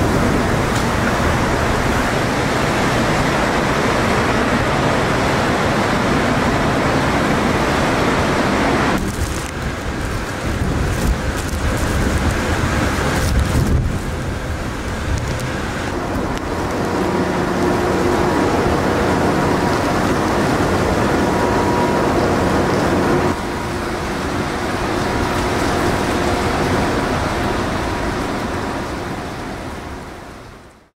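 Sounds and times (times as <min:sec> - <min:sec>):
heavy driving rain: 0:00.0 - 0:30.9
hurricane wind: 0:00.0 - 0:30.9.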